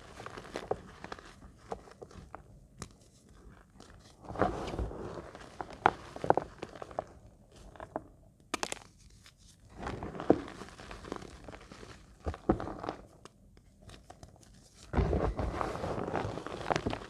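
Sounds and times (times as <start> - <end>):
chalk crunching and crumbling: 0.0 - 8.0, 8.6 - 17.0.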